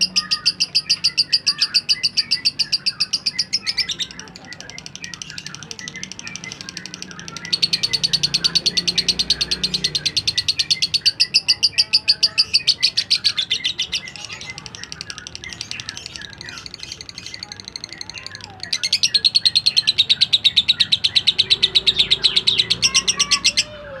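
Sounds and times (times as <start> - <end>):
bird trilling high chirps: 0.0 - 24.0.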